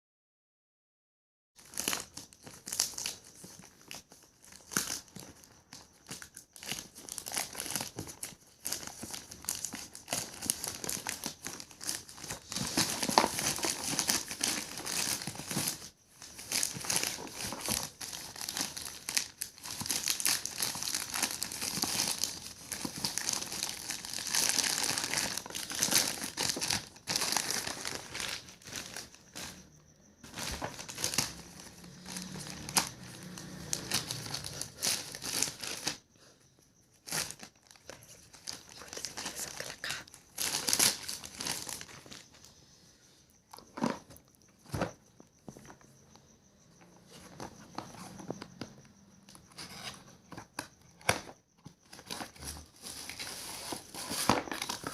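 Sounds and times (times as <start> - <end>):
packaging crinkling and rustling: 1.6 - 36.0, 37.0 - 42.4, 49.7 - 54.9.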